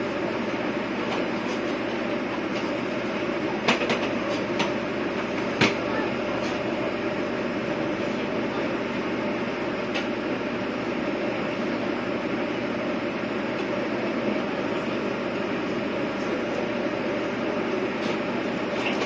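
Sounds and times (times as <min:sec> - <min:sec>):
diesel railcar rumbling: 0:00.0 - 0:19.0.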